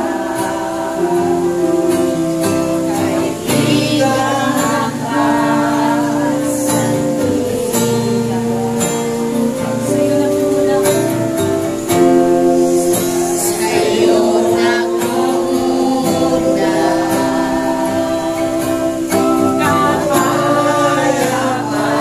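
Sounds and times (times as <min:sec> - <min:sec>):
person singing: 0:00.0 - 0:22.0
strummed acoustic guitar: 0:00.0 - 0:22.0.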